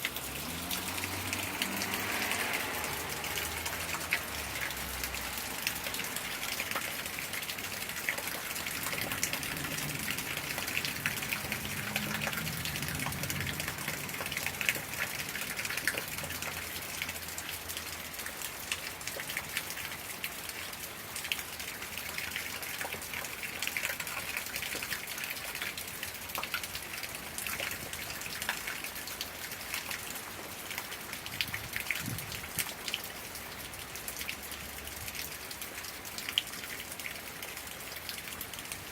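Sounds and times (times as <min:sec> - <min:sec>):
raindrops ticking close by: 0:00.0 - 0:38.9
steady rain: 0:00.0 - 0:38.9.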